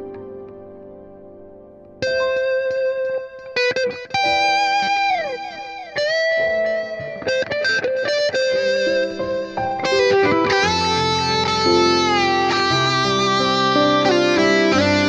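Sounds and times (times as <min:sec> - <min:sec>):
electric guitar melody: 0:00.0 - 0:15.0.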